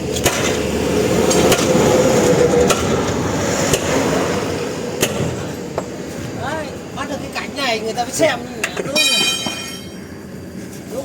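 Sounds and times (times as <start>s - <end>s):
steady mechanical rumble: 0.0s - 11.0s.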